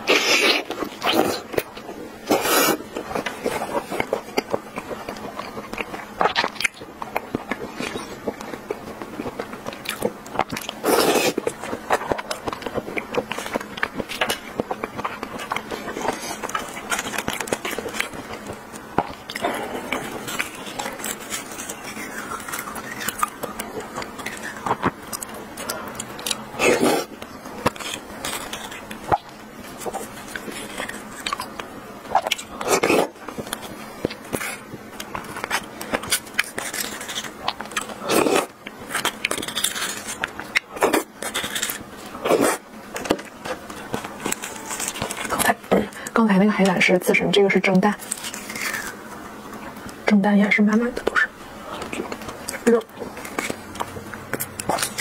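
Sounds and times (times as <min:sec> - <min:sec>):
mouth sounds of eating: 0:00.0 - 0:55.0.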